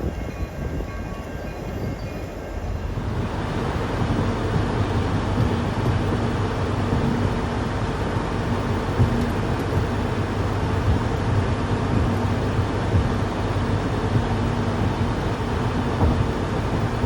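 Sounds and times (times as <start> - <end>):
engine and tyre drone: 0.0 - 17.0
road and wind noise in car: 0.0 - 17.0.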